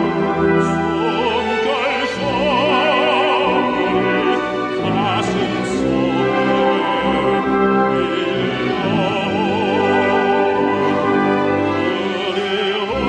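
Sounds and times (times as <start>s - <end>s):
musical accompaniment: 0.0s - 13.0s
tenor singing operatically: 0.0s - 13.0s.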